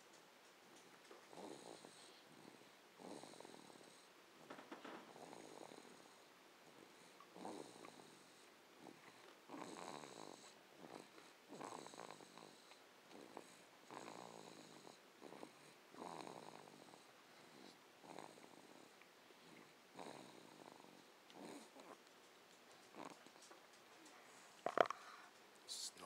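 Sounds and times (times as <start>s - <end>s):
faint snoring: 0.7s - 22.1s, 22.7s - 26.0s.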